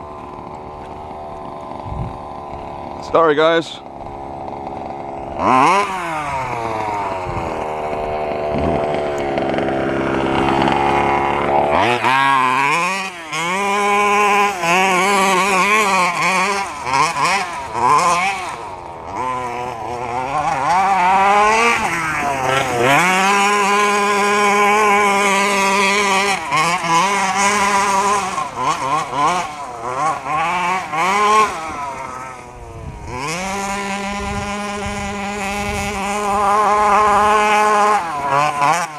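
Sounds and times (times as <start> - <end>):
small two-stroke engine revving: 0.0 - 38.9.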